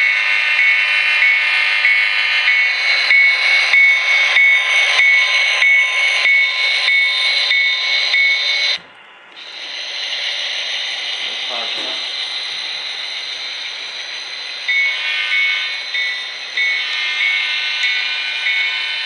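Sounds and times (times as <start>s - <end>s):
model train bell ringing: 0.0s - 8.8s, 10.8s - 19.0s
model train running sound: 0.0s - 19.0s.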